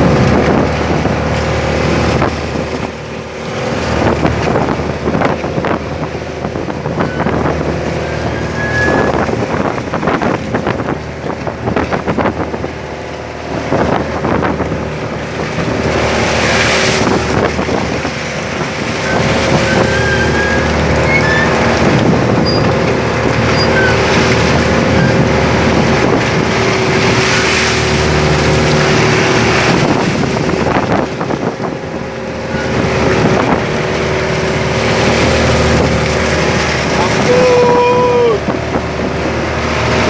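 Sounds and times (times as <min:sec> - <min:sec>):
boat engine running: 0:00.0 - 0:40.0
sea washing around hull: 0:00.0 - 0:40.0
wind buffeting microphone: 0:00.0 - 0:40.0.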